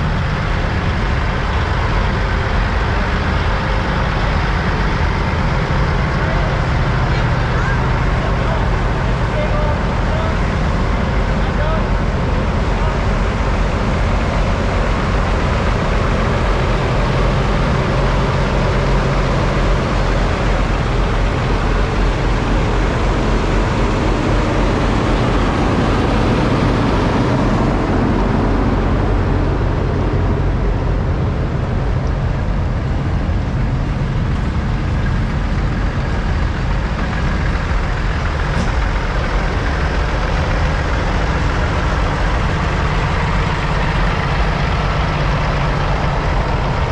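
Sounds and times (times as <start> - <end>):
diesel truck engines running: 0.0 - 46.9.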